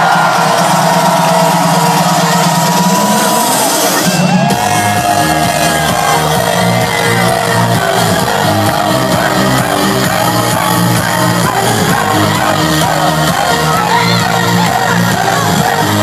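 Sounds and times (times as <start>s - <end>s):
crowd singing and shouting: 0.0s - 16.0s
loud electronic dance music: 0.0s - 16.0s.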